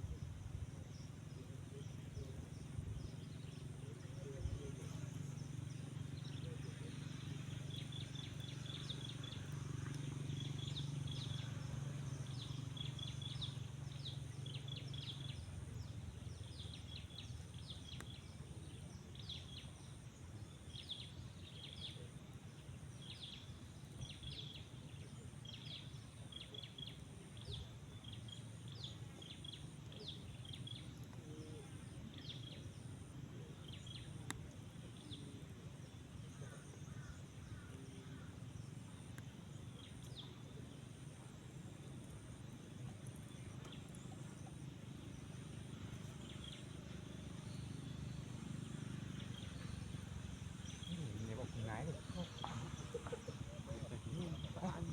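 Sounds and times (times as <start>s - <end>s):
low steady rumble: 0.0s - 54.9s
small birds chirping: 0.0s - 54.9s.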